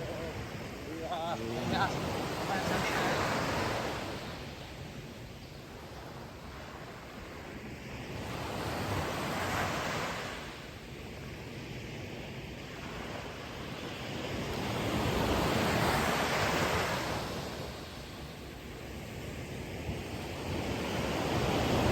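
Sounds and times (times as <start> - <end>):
ocean waves breaking on shore: 0.0 - 21.9.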